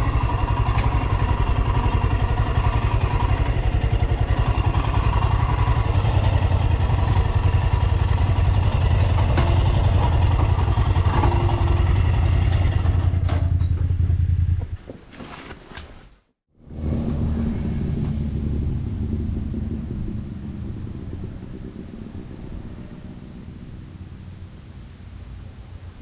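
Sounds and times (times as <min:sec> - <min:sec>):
single-cylinder motorcycle engine running: 0:00.0 - 0:14.7, 0:16.7 - 0:24.5.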